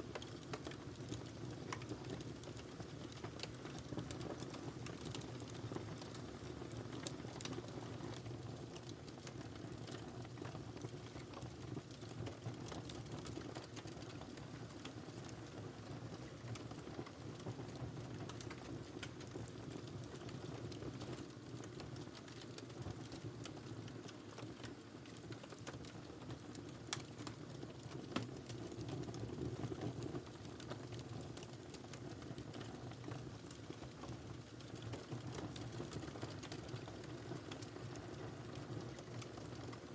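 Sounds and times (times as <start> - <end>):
wood fire crackling: 0.0 - 39.9
flames rumbling: 0.1 - 39.8.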